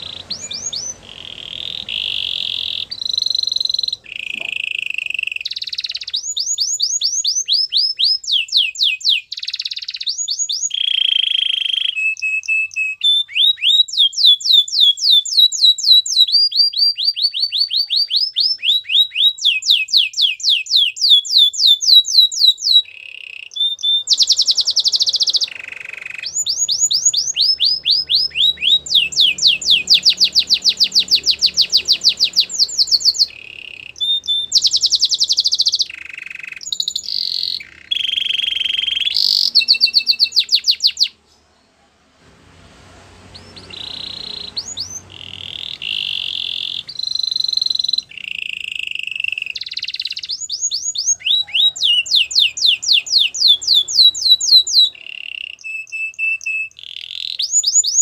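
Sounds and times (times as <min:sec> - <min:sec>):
canary singing trills: 0:00.0 - 0:41.7, 0:43.2 - 0:58.0.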